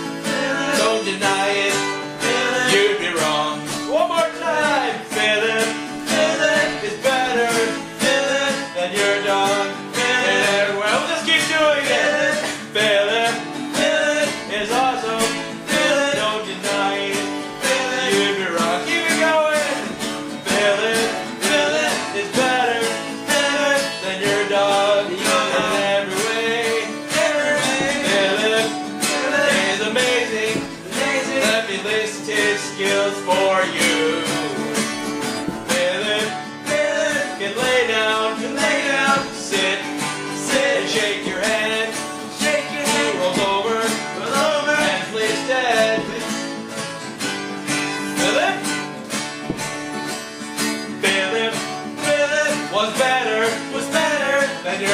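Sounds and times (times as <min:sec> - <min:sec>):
acoustic guitars strummed: 0:00.0 - 0:54.9.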